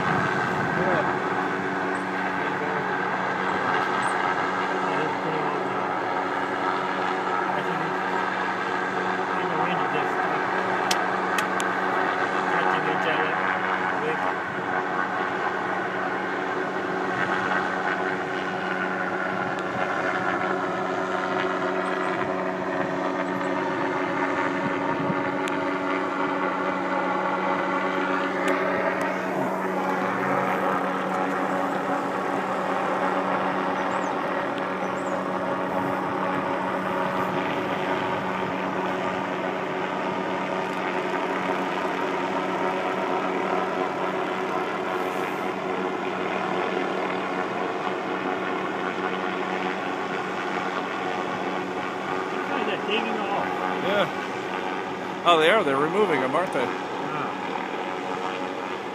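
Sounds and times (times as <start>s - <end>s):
engine drone with whine: 0.0s - 58.9s.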